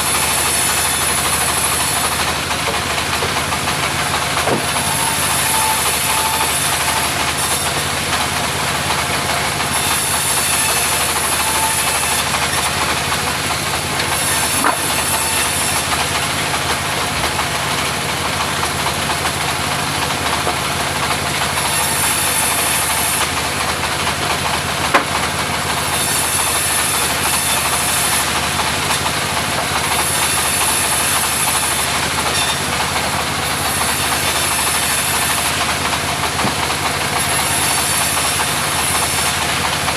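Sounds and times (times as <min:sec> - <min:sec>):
mobile sawmill running: 0:00.0 - 0:39.9.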